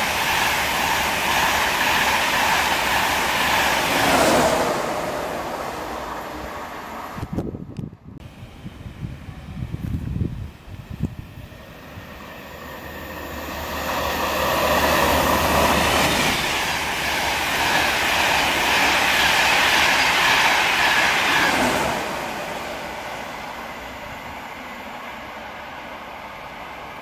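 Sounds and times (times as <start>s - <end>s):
express train passing: 0.0s - 27.0s.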